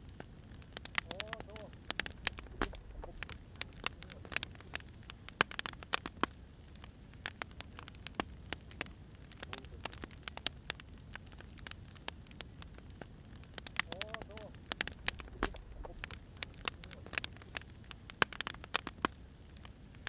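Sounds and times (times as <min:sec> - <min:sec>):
firewood crackling and popping: 0:00.0 - 0:20.0
low rumble of flames: 0:00.0 - 0:20.0.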